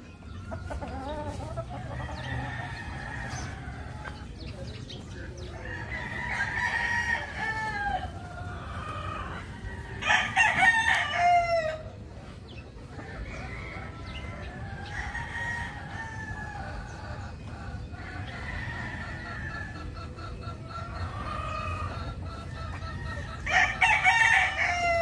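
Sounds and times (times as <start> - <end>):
roosters crowing: 0.0 - 25.0.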